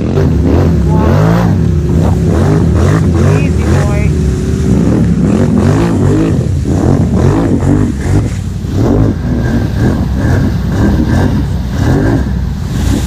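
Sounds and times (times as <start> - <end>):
atv engine revving: 0.0 - 13.0
water splashing: 0.0 - 13.0.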